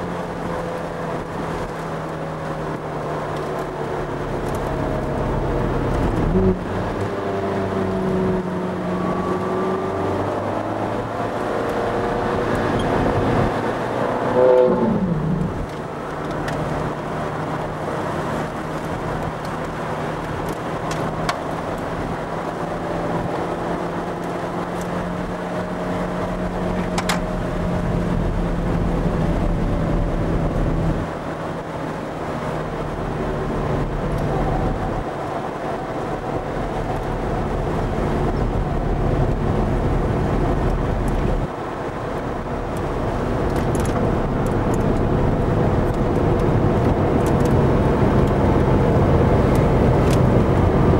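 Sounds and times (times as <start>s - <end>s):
road and wind noise: 0.0s - 50.9s
sports car engine accelerating: 0.0s - 50.9s.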